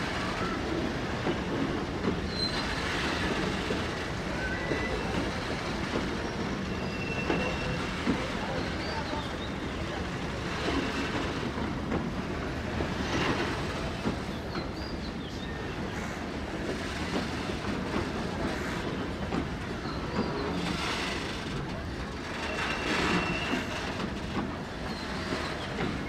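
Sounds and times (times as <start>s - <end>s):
train rumble: 0.0s - 26.0s
train wheels clattering over rail joints: 0.0s - 26.0s.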